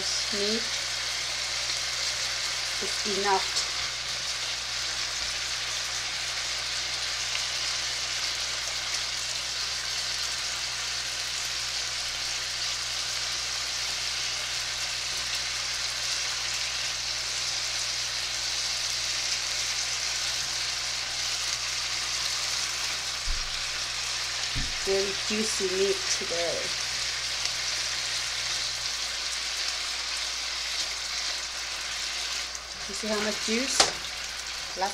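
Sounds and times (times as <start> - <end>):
beef sizzling in a skillet: 0.0 - 34.9.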